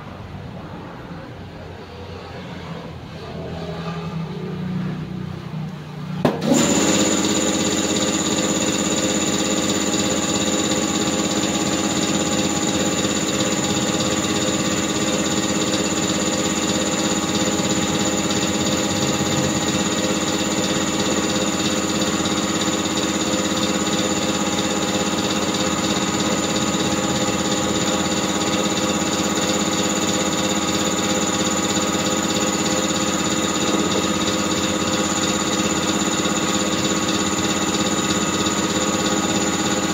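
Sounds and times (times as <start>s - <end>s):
compressed-air equipment whirring: 6.2s - 39.9s.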